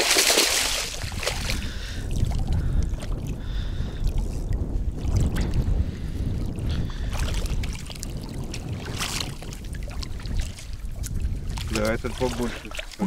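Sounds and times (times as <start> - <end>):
water splashes: 0.0 - 13.0
wind rumbling on microphone: 0.0 - 13.0.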